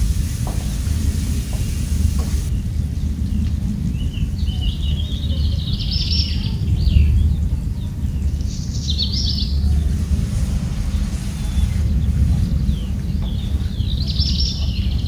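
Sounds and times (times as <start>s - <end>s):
birds chirping and warbling: 0.0s - 15.0s.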